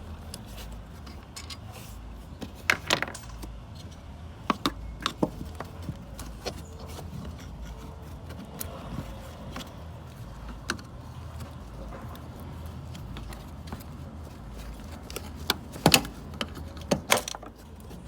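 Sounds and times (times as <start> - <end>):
hand tools clinking and knocking: 0.2 - 3.9, 4.5 - 18.0.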